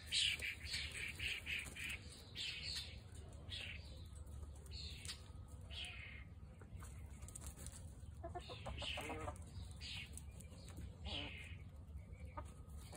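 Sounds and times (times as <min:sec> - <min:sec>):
chickens calling: 0:00.0 - 0:12.9.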